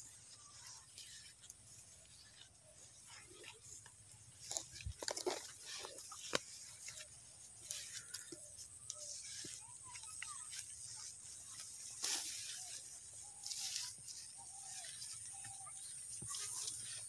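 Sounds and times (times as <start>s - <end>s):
stalks rustling against camera: 0.0s - 17.0s.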